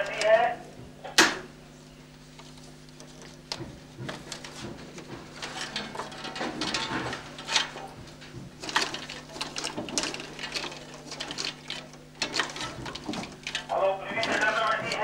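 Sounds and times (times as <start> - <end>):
film projector chattering: 0.0 - 0.6, 2.1 - 15.0.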